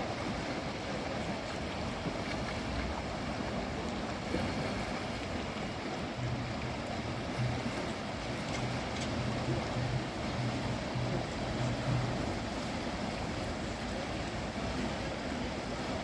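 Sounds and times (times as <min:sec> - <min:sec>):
fast river water rushing: 0:00.0 - 0:16.0
low hum: 0:02.7 - 0:16.0.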